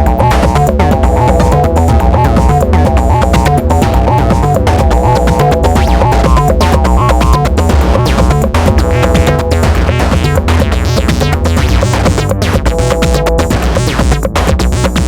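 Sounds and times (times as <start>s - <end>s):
electronic percussive hits: 0.0s - 15.0s
heavy synth bass line: 0.0s - 15.0s
repeating synth notes: 0.0s - 15.0s.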